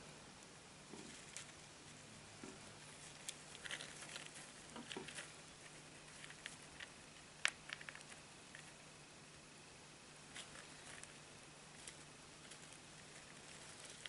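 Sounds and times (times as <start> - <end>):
hamster scrabbling in bedding: 0.9 - 8.7, 10.3 - 14.0.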